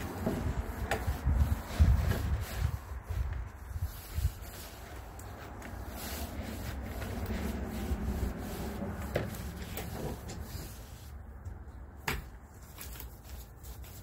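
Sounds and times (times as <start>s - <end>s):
paint roller rubbing on wood: 0.0s - 11.6s, 13.0s - 14.0s.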